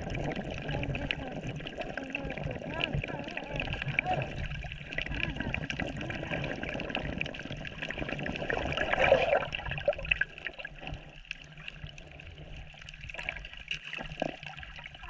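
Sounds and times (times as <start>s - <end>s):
seawater sloshing and splashing: 0.0s - 15.0s.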